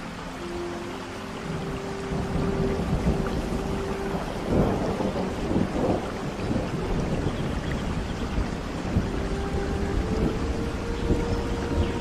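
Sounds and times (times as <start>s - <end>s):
heavy rain: 0.0s - 12.0s
thunder rumbling: 1.4s - 12.0s.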